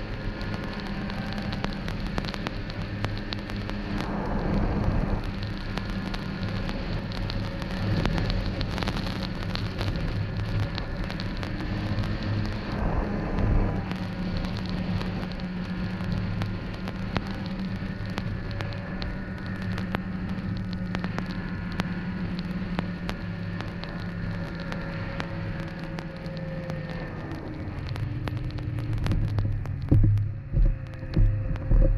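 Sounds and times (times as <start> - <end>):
dense crackle of clicks: 0.0 - 31.9
snowmobile engine running: 0.0 - 31.9.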